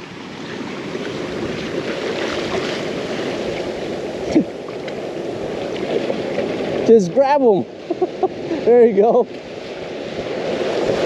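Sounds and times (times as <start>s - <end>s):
surf washing in shallows: 0.0s - 11.0s
wind on microphone: 0.0s - 11.0s.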